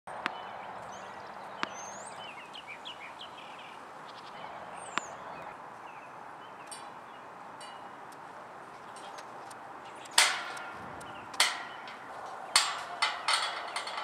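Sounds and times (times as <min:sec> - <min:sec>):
birds chirping faintly: 0:00.1 - 0:14.0
outdoor background noise: 0:00.1 - 0:14.0.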